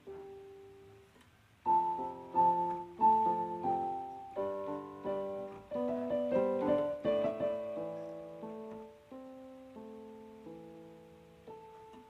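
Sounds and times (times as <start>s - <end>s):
piano music: 0.0s - 1.0s, 1.6s - 12.0s.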